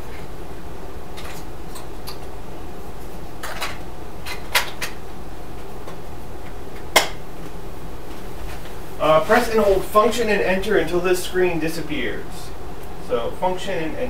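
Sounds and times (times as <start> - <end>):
steady room hum: 0.0 - 14.0.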